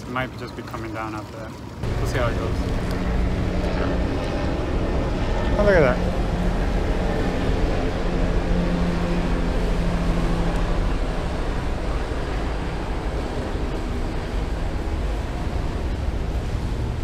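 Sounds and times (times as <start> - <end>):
low motor hum: 1.6 - 17.0.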